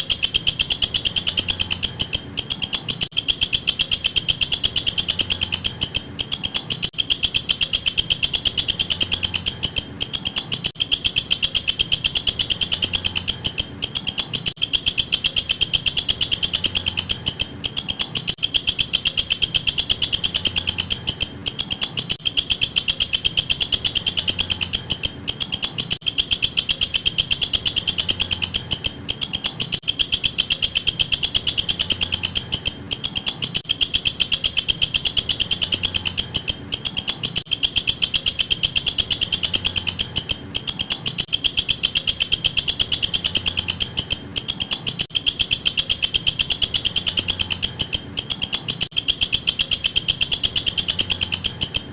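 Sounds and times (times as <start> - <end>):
insect calling with high ticks: 0.0 - 51.9.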